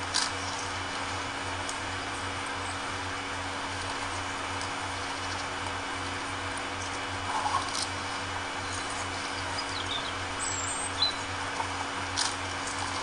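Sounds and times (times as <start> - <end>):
steady hiss and low hum: 0.0 - 13.0.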